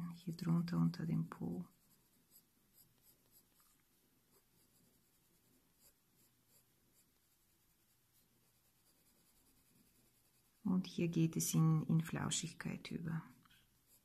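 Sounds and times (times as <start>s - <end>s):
pencil scratching on paper: 0.3s - 11.4s, 12.4s - 14.0s.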